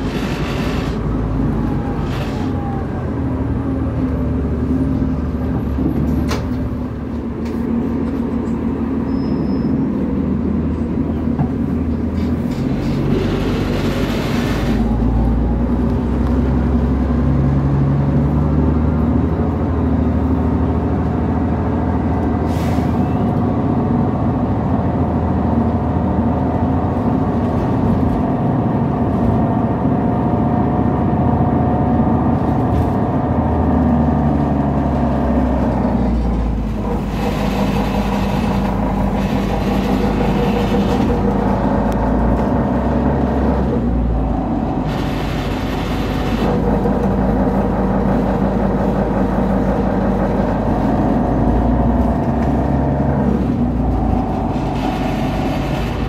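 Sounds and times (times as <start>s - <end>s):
bus engine running: 0.0s - 56.0s
road noise: 0.0s - 56.0s.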